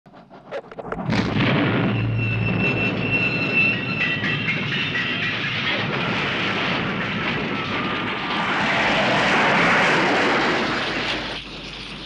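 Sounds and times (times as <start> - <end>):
train crash grinding metal roar: 0.9 - 12.0.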